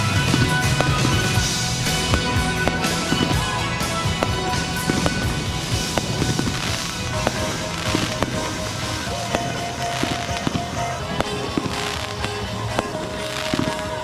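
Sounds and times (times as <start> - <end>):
fireworks hissing crackle: 0.0 - 14.0
fireworks popping and banging: 0.0 - 14.0
music playing: 0.0 - 14.0.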